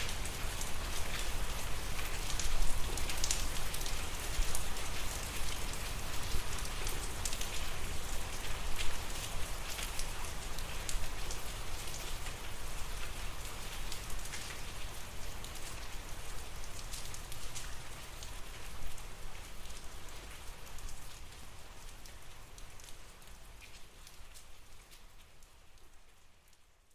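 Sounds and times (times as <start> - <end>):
rain drops hitting a surface: 0.0 - 26.9.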